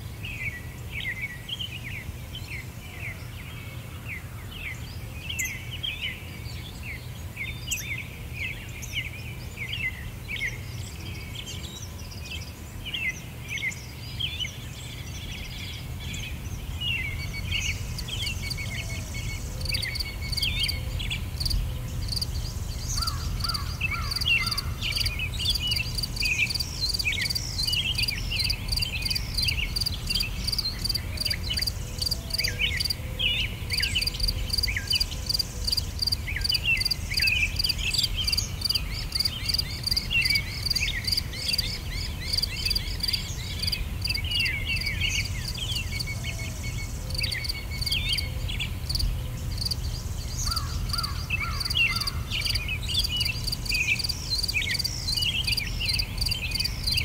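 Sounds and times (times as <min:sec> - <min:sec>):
small birds chirping: 0:04.2 - 0:57.0.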